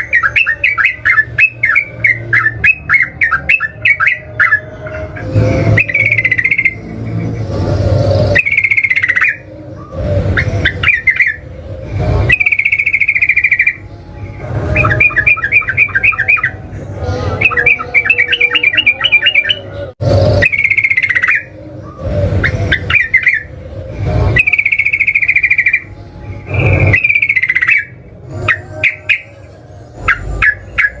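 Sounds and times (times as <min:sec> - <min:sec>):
bulbul singing bubbly phrases: 0:00.0 - 0:31.0.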